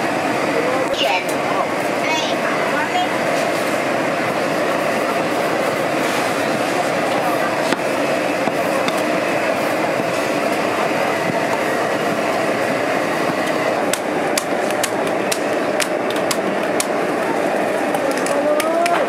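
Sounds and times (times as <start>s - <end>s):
steady background rush: 0.0s - 19.0s.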